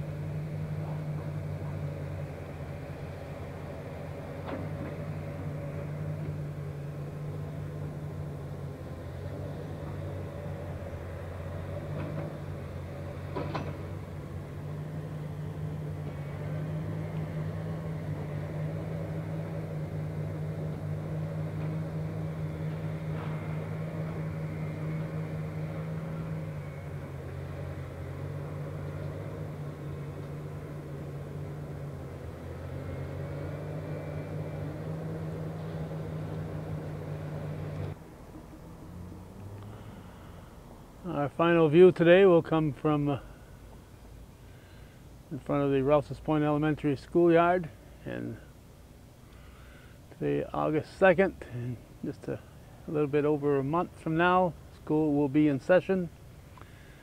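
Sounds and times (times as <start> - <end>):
excavator diesel engine running: 0.0 - 46.5.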